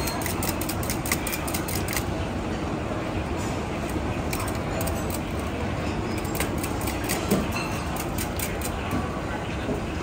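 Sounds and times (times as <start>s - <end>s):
busy kitchen rumble: 0.0s - 10.0s.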